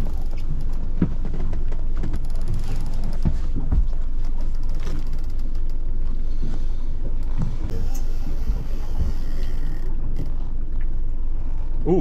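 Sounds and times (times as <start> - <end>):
boat engine rumbling: 0.0 - 12.0
water and hull noise: 0.0 - 12.0.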